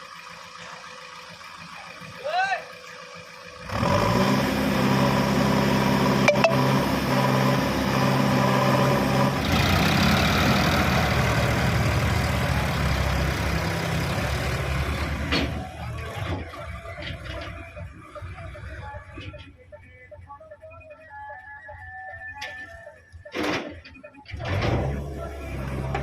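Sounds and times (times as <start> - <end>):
heavy diesel engine running: 0.0 - 20.1, 24.3 - 26.0.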